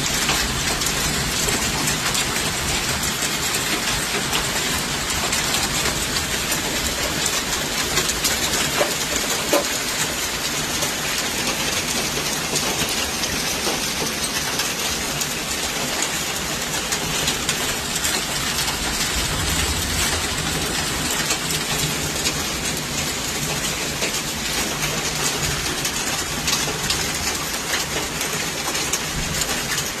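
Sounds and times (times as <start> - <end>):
rain: 0.0 - 30.0
hail pelting: 0.1 - 30.0.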